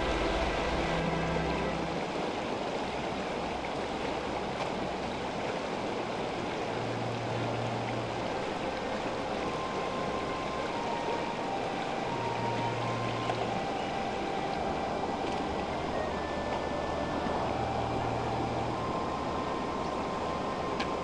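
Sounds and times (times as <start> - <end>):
river flowing over stones: 0.0 - 21.0.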